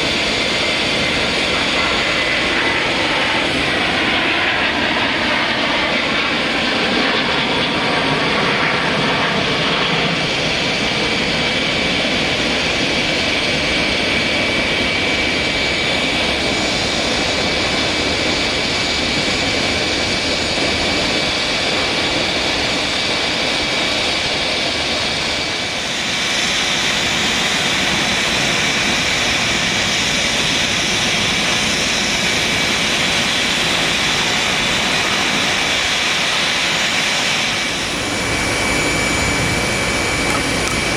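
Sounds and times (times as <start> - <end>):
jet engines with high whine: 0.0 - 40.9.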